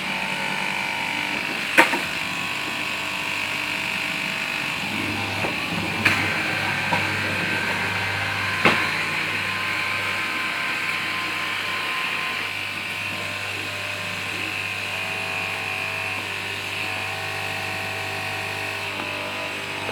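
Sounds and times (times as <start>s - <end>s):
cutting machine motor whine: 0.0s - 19.9s.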